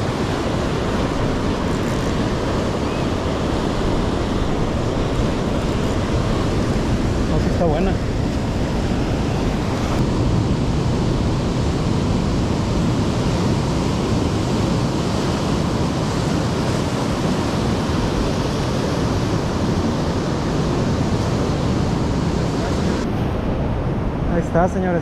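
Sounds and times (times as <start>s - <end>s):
ocean waves washing in: 0.0s - 25.0s
wind on microphone: 0.0s - 25.0s.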